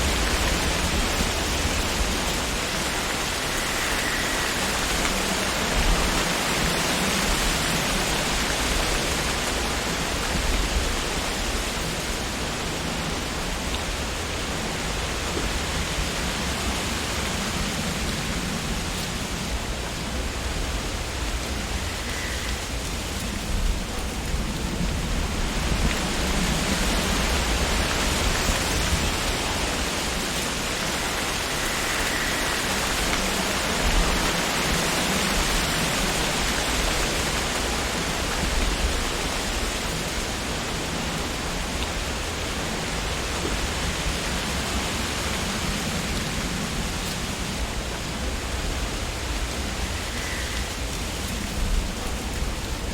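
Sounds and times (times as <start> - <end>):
wind rustling tree leaves: 0.0 - 52.9.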